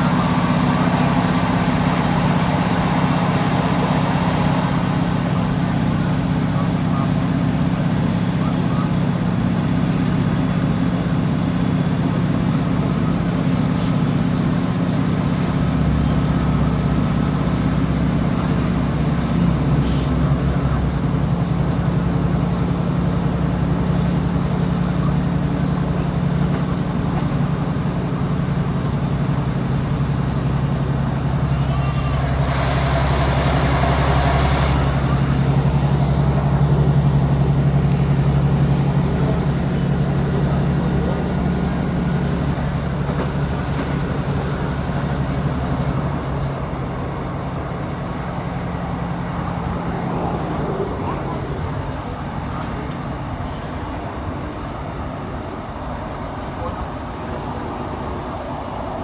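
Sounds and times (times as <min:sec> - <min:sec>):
diesel engine drone: 0:00.0 - 0:59.0
wheel-on-rail noise: 0:00.0 - 0:59.0.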